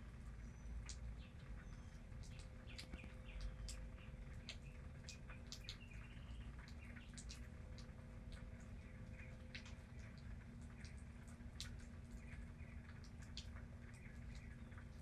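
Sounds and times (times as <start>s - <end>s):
low steady rumble: 0.0s - 15.0s
rainwater dripping: 0.0s - 15.0s.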